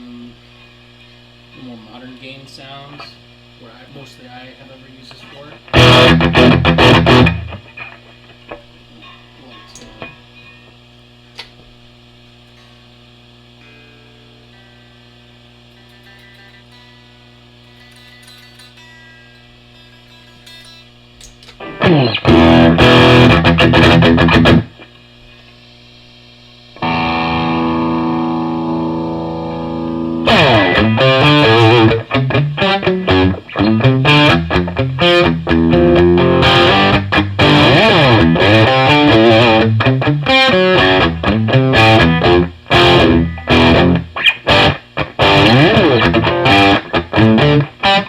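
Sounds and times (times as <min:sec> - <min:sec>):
amplifier humming: 0:00.0 - 0:48.0
distorted electric guitar chords: 0:05.6 - 0:11.2, 0:12.0 - 0:25.0, 0:26.8 - 0:48.0.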